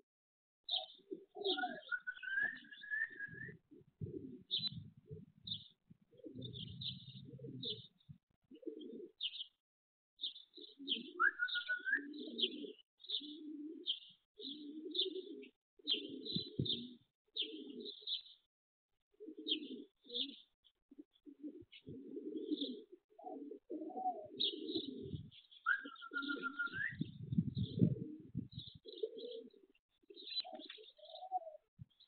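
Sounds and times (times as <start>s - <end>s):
pigeons cooing: 0.7s - 9.6s, 10.2s - 18.4s, 19.1s - 32.0s
small birds chirping: 0.7s - 9.6s, 10.2s - 18.5s, 19.2s - 32.0s.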